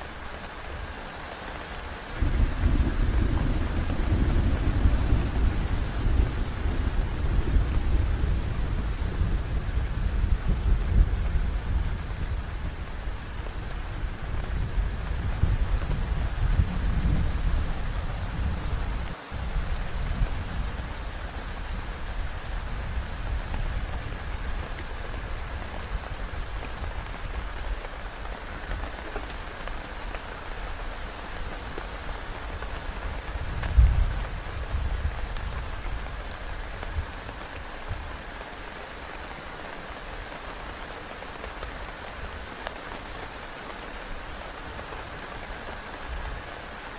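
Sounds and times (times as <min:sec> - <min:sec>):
heavy rain on a tent: 0:00.0 - 0:46.9.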